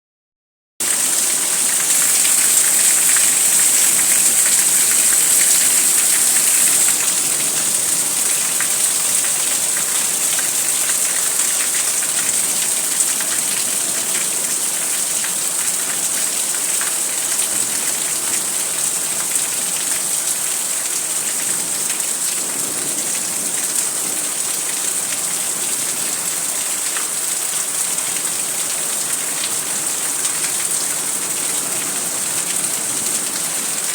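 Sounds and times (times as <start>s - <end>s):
heavy rain falling: 0.8s - 33.9s.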